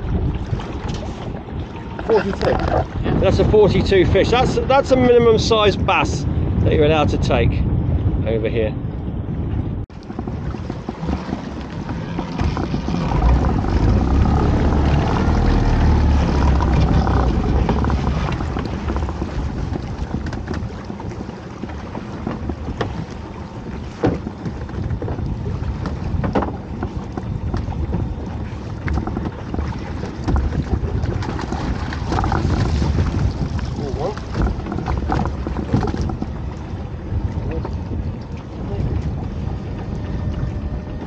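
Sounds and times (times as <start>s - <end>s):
waves splashing against boat: 0.0s - 41.0s
wind buffeting microphone: 0.0s - 41.0s.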